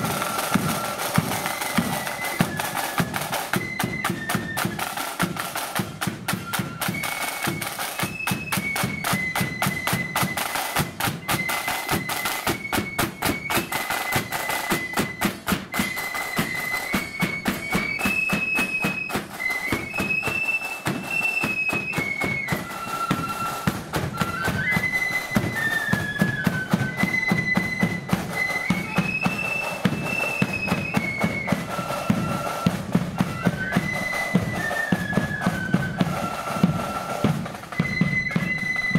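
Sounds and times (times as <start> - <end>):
flutes playing melody: 0.0 - 38.9
snare drums: 0.0 - 38.9.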